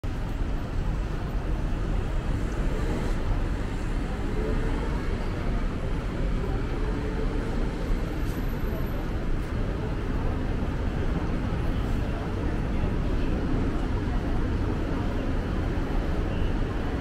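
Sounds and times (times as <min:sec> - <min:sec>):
traffic rumble: 0:00.0 - 0:17.0
faint voices: 0:00.1 - 0:17.0.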